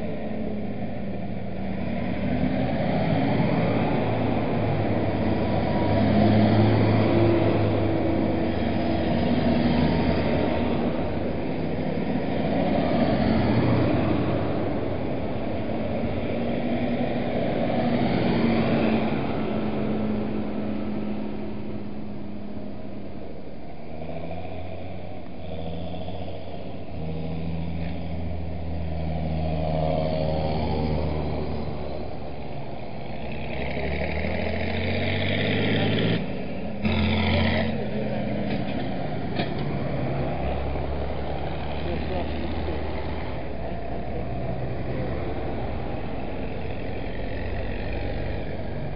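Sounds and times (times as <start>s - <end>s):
tractor diesel engines: 0.0s - 48.9s.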